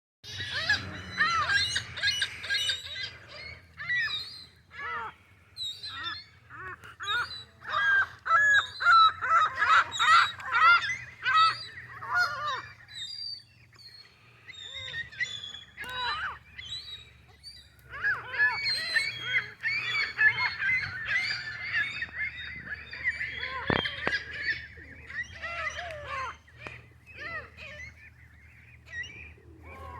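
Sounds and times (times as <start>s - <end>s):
geese honking: 0.3s - 29.9s.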